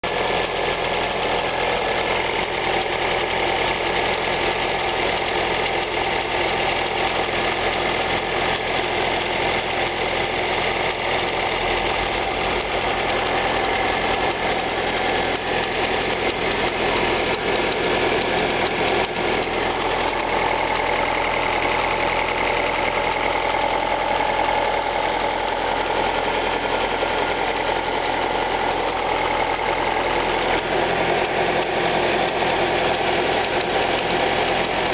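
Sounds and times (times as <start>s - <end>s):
car engine idling: 0.0s - 34.9s
engine ticking: 0.0s - 34.9s.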